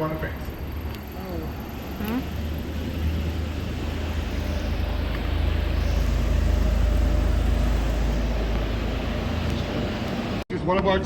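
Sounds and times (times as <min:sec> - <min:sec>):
boat engine rumble: 0:00.0 - 0:10.4.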